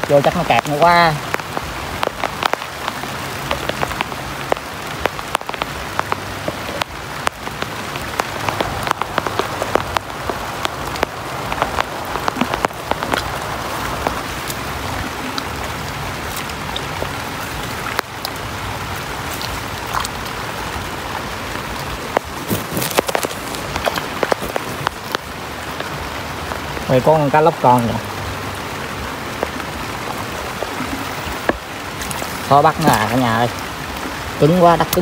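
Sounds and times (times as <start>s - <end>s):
heavy rain falling: 0.0s - 35.0s
raindrops tapping nearby: 0.0s - 35.0s.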